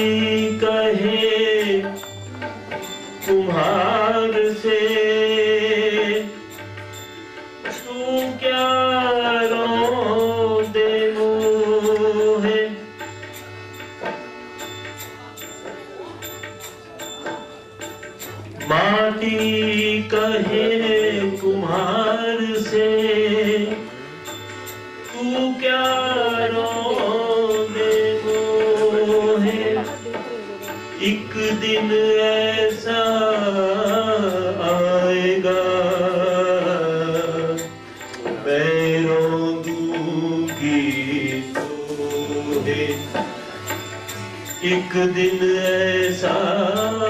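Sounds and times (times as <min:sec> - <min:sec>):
person singing devotional song: 0:00.0 - 0:06.5, 0:07.7 - 0:13.0, 0:18.5 - 0:47.0
sustained harmonium: 0:00.0 - 0:47.0
tabla strokes: 0:00.0 - 0:47.0.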